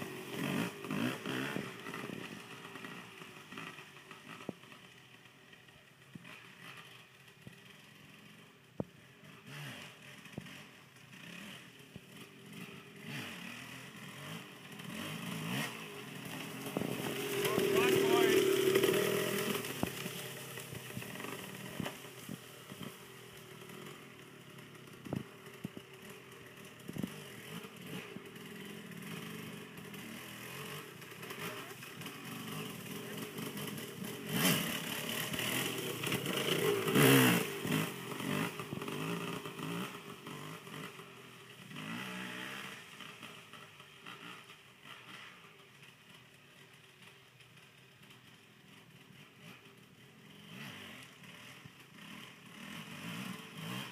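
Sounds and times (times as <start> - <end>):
dirt bike engine revving: 0.0 - 4.5, 9.2 - 45.5, 50.3 - 53.9.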